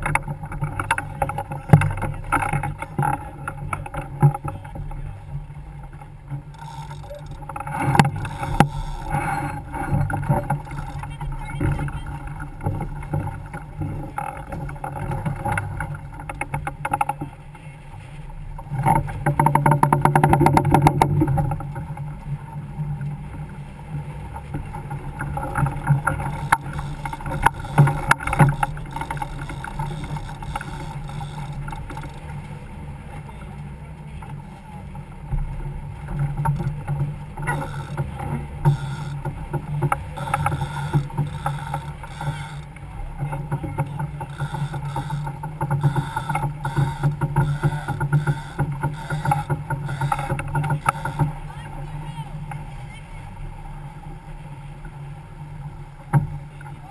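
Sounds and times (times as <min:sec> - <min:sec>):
water rushing along hull: 0:00.0 - 0:56.9.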